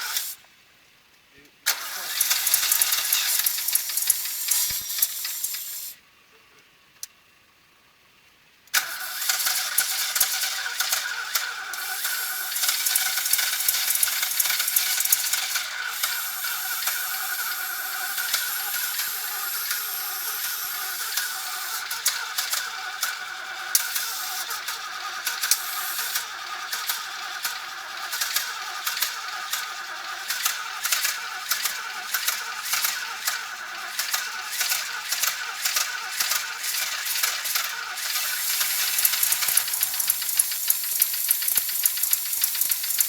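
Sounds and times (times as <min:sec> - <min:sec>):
rattly car engine running: 0:01.7 - 0:05.9, 0:08.8 - 0:43.0.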